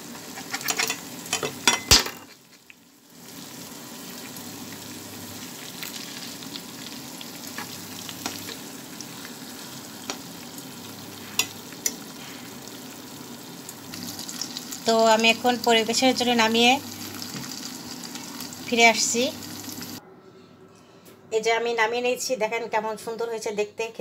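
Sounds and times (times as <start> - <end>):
chicken frying sizzle: 0.0 - 20.0.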